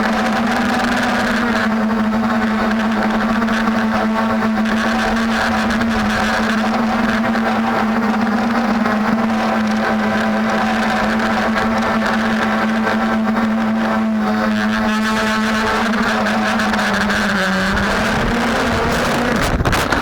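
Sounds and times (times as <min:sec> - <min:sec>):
quadcopter motors humming: 0:00.0 - 0:20.0.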